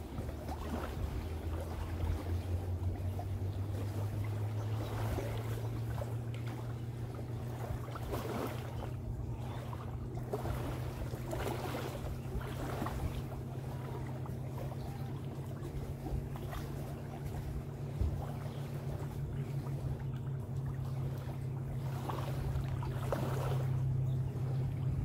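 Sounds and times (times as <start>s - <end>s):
distant motorboat engine: 0.0s - 25.0s
small waves lapping at shore: 0.0s - 25.0s.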